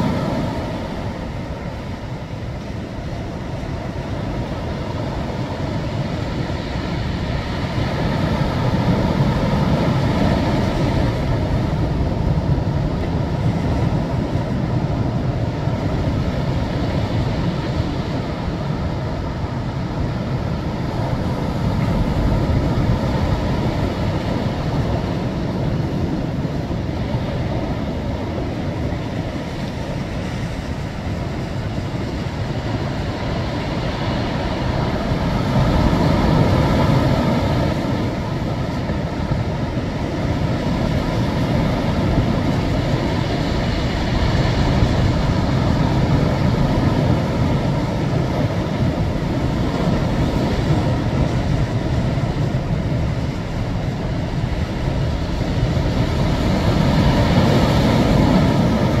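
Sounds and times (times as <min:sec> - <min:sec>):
waves breaking against breakwater: 0:00.0 - 0:59.0.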